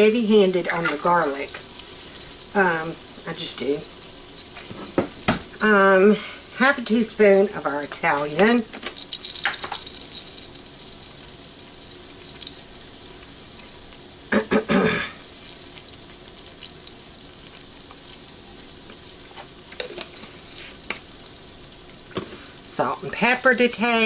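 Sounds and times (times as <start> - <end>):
butter sizzling in a pot: 0.0 - 24.0.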